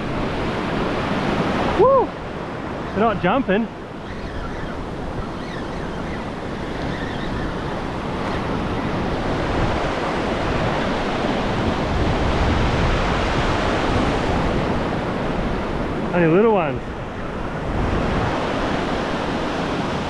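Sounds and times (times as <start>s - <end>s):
ocean surf breaking: 0.0s - 20.0s
wind rumbling on microphone: 0.0s - 20.0s.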